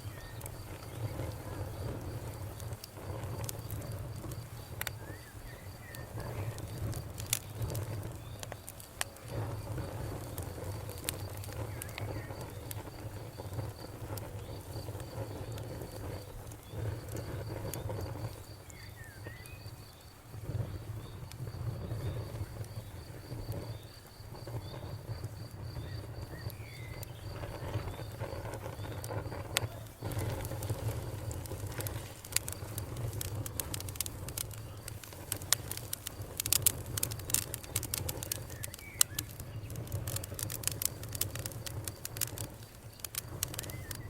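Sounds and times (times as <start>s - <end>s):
campfire crackling: 0.0s - 44.0s
fire low rumble: 0.0s - 44.0s
insect-like chirping: 0.0s - 44.0s.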